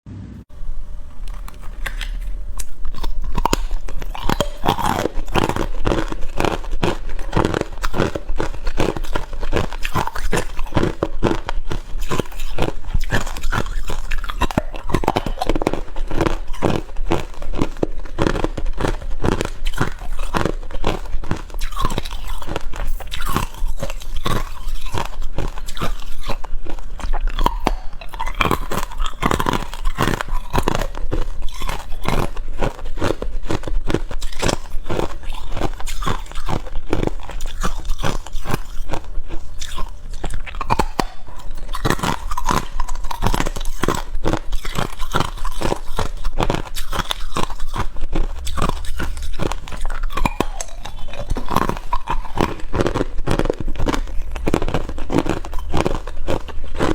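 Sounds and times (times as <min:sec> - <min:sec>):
ice being chewed: 0:00.5 - 0:56.9.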